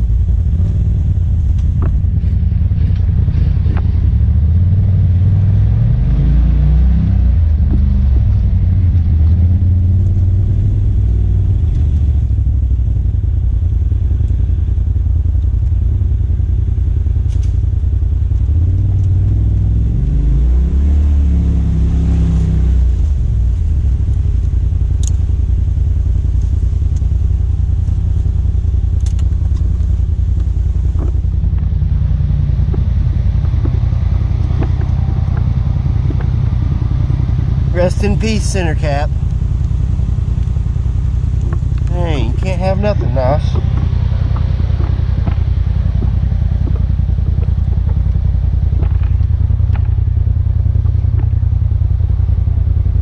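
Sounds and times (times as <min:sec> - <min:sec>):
utility vehicle engine running: 0:00.0 - 0:53.0.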